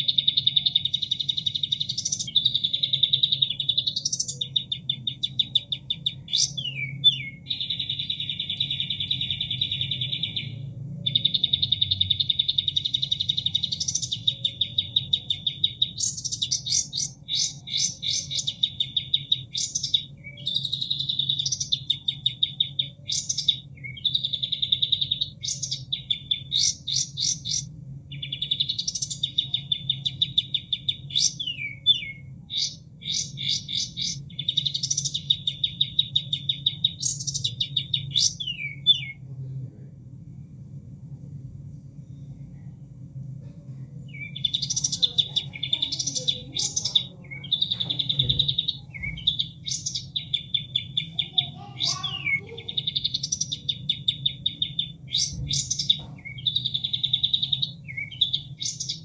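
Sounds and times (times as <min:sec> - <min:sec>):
songbird trilling and whistling: 0:00.0 - 0:39.2, 0:44.1 - 0:59.0.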